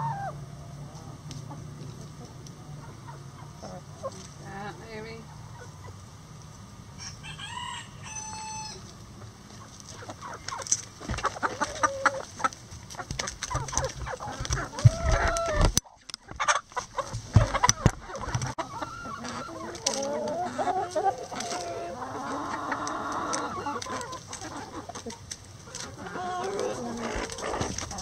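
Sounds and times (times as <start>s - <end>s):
hens clucking and squawking: 0.0s - 28.0s.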